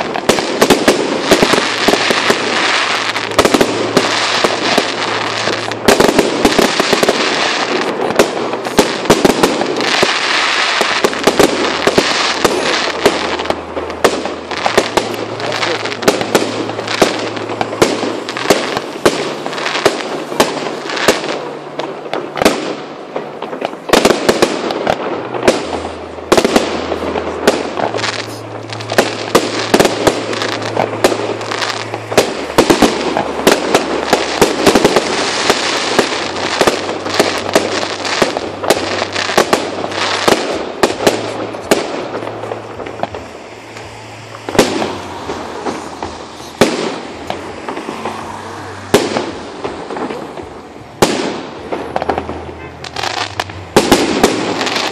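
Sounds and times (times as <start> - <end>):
fireworks bangs and cracks: 0.0 - 54.9.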